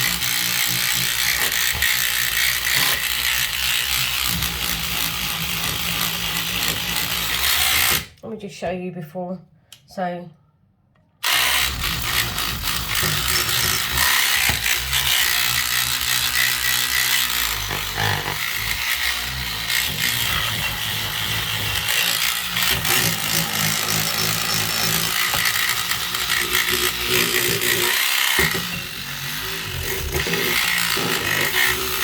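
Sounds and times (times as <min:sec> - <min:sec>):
electric cleaning brush scrubbing: 0:00.0 - 0:08.1, 0:11.2 - 0:32.0.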